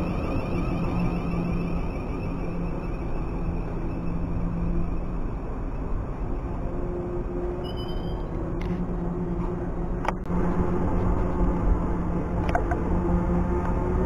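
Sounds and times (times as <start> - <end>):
traction equipment hum: 0.0 - 14.0.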